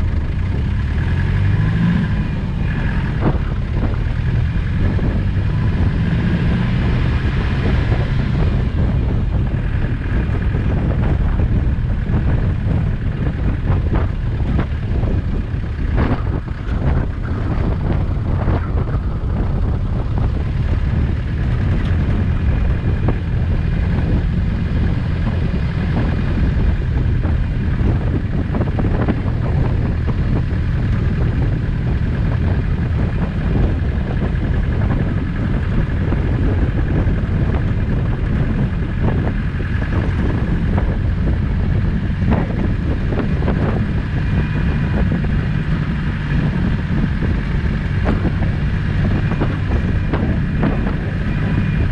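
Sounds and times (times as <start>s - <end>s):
diesel engine running: 0.0s - 51.9s
wind buffeting microphone: 0.0s - 51.9s.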